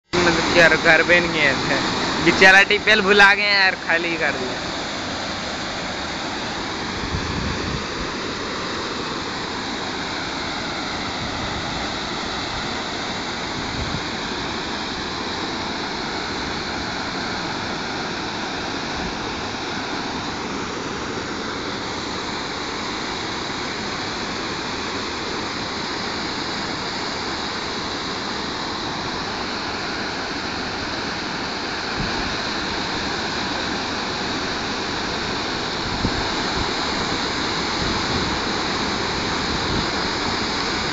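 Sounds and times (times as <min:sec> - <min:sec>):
waterfall rushing over rocks: 0:00.2 - 0:40.9.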